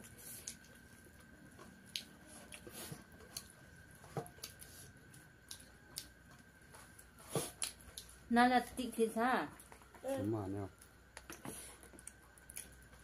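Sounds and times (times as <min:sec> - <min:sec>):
chewing: 0:00.0 - 0:08.3, 0:10.8 - 0:13.0.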